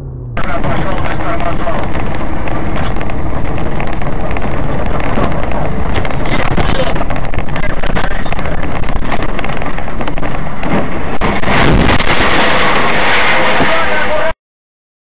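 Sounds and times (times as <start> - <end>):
vehicle engine and road noise: 0.0 - 14.4
constant rattle: 0.4 - 14.2.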